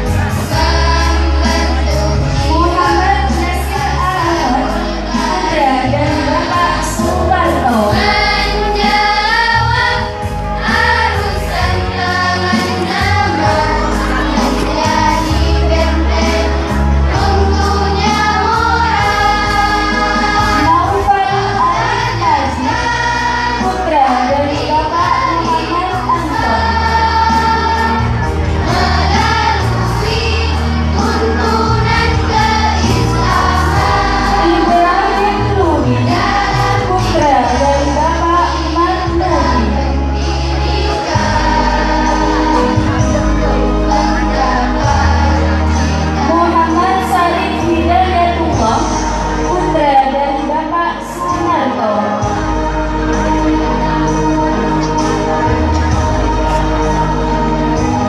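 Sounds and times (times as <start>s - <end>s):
choir singing a hymn: 0.0s - 58.0s
instrumental backing with bass: 0.0s - 58.0s
musical accompaniment with beat: 0.0s - 58.0s.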